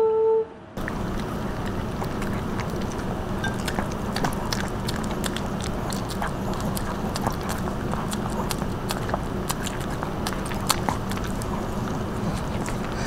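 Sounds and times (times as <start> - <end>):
steady low hum: 0.0 - 13.0
dogs chewing: 0.8 - 13.0.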